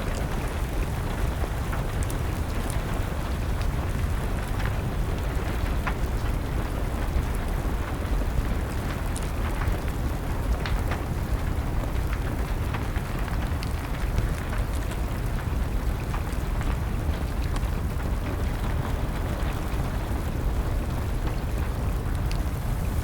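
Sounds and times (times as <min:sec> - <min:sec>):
steady rain: 0:00.0 - 0:23.0
wood fire crackling: 0:00.0 - 0:23.0.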